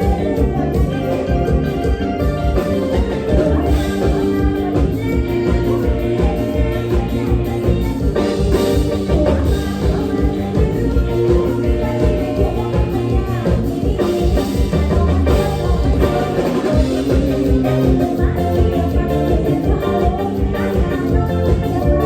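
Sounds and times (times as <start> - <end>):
electric bass: 0.0 - 22.0
live band playing upbeat music: 0.0 - 22.0
steady drum beat: 0.0 - 22.0.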